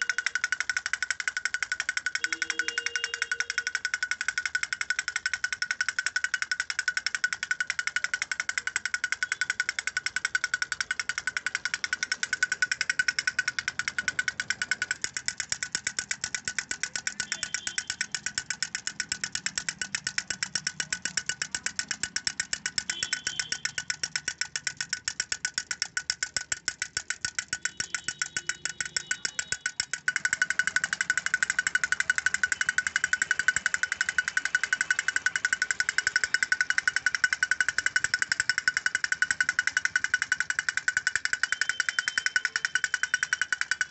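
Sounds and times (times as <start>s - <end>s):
clockwork toy drum rattle: 0.0s - 43.9s.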